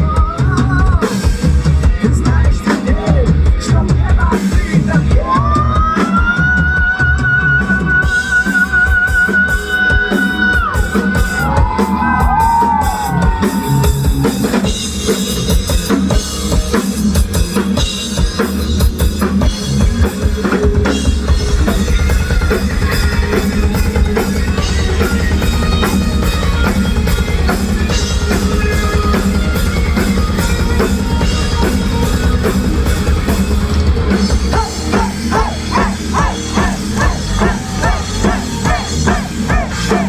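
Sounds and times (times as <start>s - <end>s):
instrumental rock band: 0.0s - 40.0s
loud drum kit: 0.0s - 40.0s.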